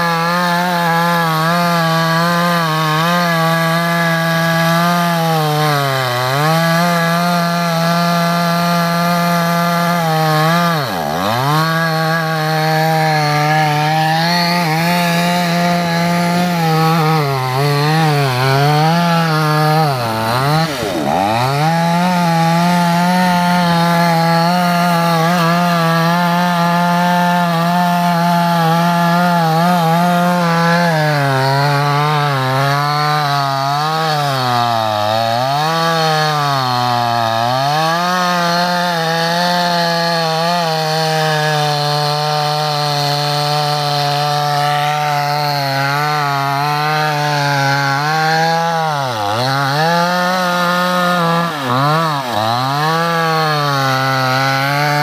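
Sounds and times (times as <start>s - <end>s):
chainsaw cutting into tree: 0.0s - 55.0s.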